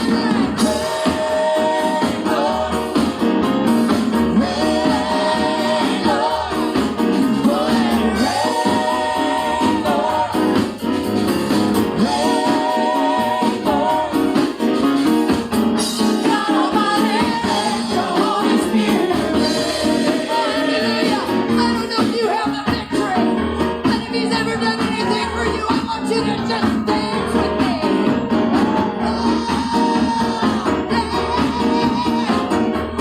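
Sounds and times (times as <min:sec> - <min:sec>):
gospel group singing with instruments: 0:00.0 - 0:33.0.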